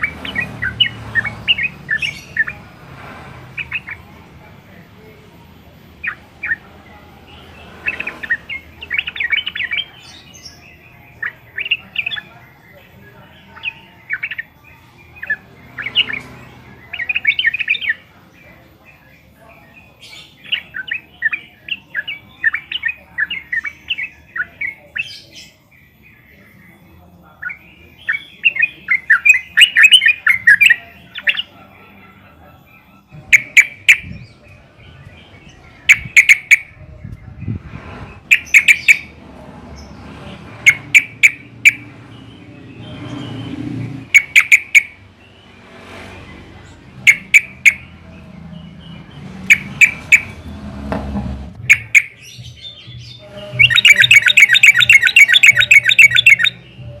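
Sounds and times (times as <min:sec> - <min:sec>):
bird chirping quickly: 0:00.0 - 0:02.7, 0:05.9 - 0:18.6, 0:19.2 - 0:31.5, 0:33.1 - 0:50.7, 0:51.6 - 0:57.0.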